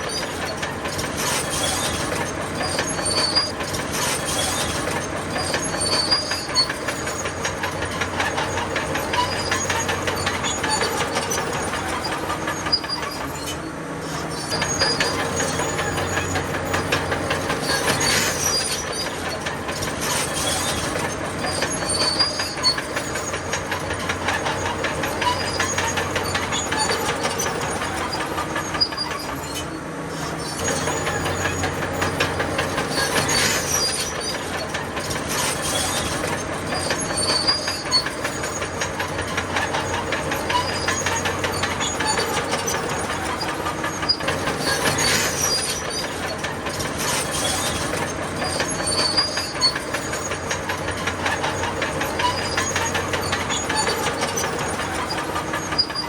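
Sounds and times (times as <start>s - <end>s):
bulldozer diesel engine: 0.0s - 56.0s
steel tracks clanking: 0.0s - 56.0s
track squeals: 0.0s - 56.0s.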